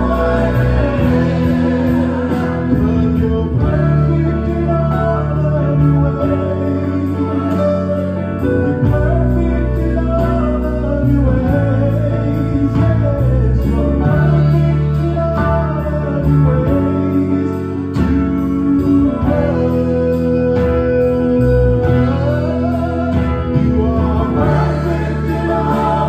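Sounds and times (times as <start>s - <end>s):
gospel song with singing: 0.0s - 26.0s.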